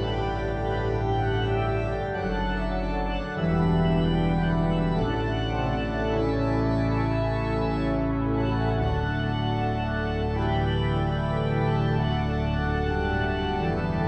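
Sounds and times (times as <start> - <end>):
organ chords with pedal bass: 0.0 - 14.0.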